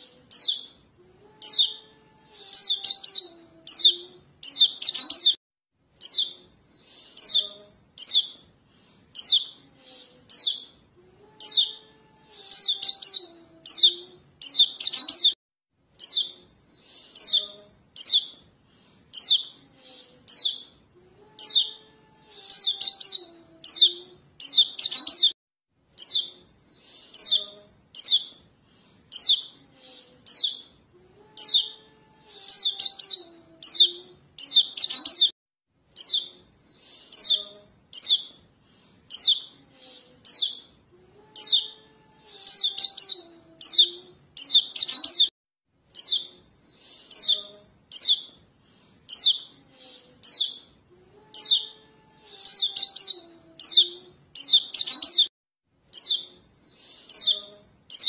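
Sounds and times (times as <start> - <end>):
high bird chirps: 0.0 - 0.8, 1.4 - 5.4, 6.0 - 8.4, 9.1 - 10.8, 11.4 - 15.4, 16.0 - 18.4, 19.1 - 25.4, 26.0 - 28.4, 29.1 - 30.8, 31.4 - 35.3, 36.0 - 38.4, 39.1 - 39.6, 40.2 - 40.8, 41.4 - 45.3, 45.9 - 48.4, 49.1 - 55.3, 55.9 - 58.0.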